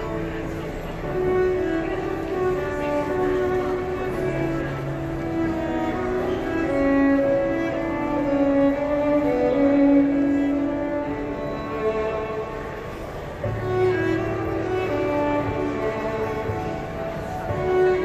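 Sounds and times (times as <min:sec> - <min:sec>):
violin playing slow melody: 0:00.0 - 0:18.0.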